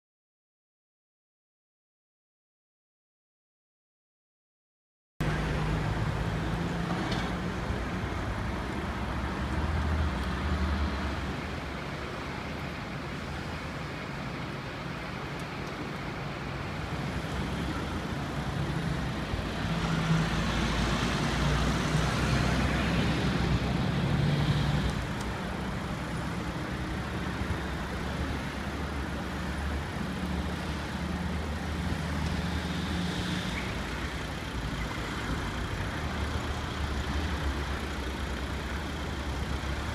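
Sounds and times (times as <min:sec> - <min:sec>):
motorway traffic passing: 0:05.2 - 0:39.9.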